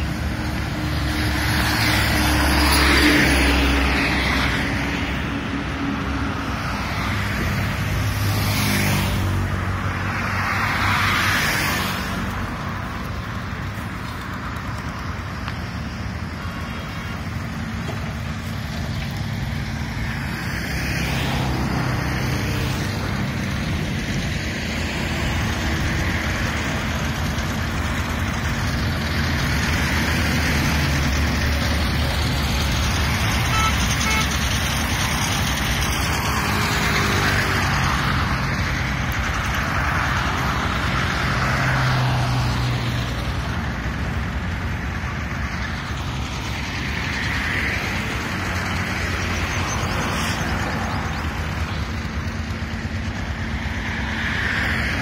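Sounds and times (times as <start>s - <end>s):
road noise: 0.0s - 55.0s
vehicle engine hum: 0.0s - 55.0s.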